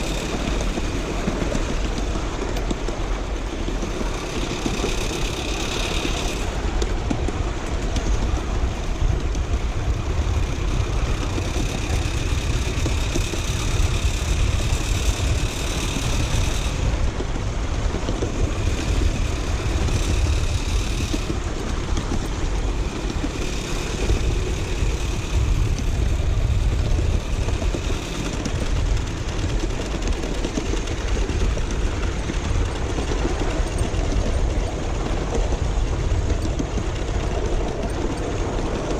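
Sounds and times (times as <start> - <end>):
miniature train wheels rumbling: 0.0 - 38.9.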